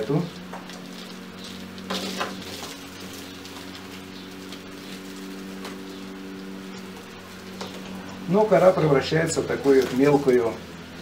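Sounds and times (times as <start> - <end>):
steady low hum: 0.0 - 11.0
bark rustling: 0.4 - 10.8.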